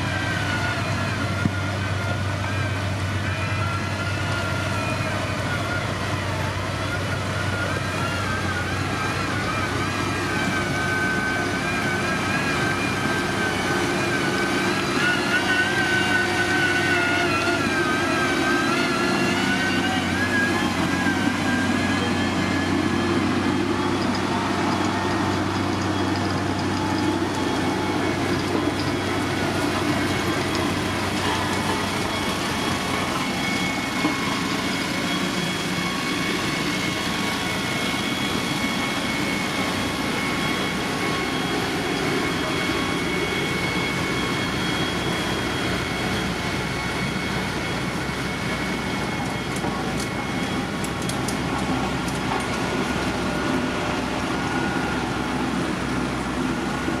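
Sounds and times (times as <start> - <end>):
diesel engine running under load: 0.0 - 57.0
wavering high whine: 0.0 - 57.0.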